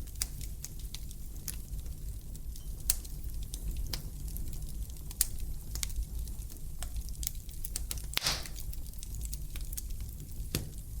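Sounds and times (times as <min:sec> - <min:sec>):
fire crackling and popping: 0:00.0 - 0:11.0
low fire rumble: 0:00.0 - 0:11.0.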